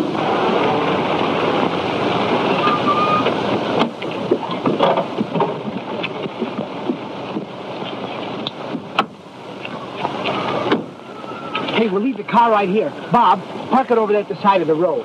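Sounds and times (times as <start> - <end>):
car motor and road noise: 0.0 - 15.0
film soundtrack hiss: 0.0 - 15.0.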